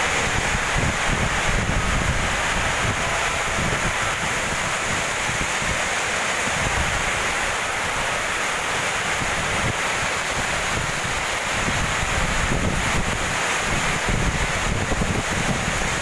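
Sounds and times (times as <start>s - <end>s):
storm wind through plants: 0.0s - 16.0s
wind buffeting microphone: 0.0s - 16.0s.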